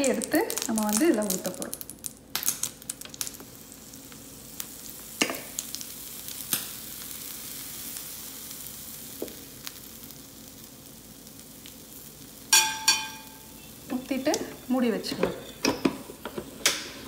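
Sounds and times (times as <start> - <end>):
waffle batter sizzling: 0.0 - 17.0.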